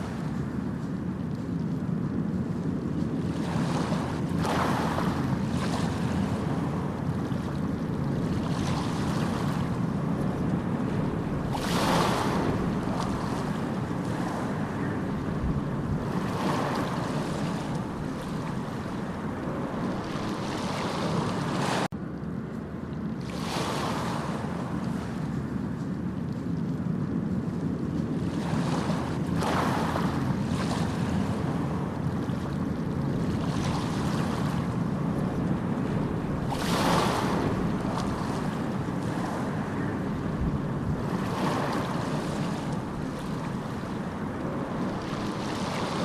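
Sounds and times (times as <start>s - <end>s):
sea waves breaking: 0.0s - 22.0s, 22.7s - 46.0s
steady low rumble: 0.0s - 23.3s, 24.2s - 46.0s.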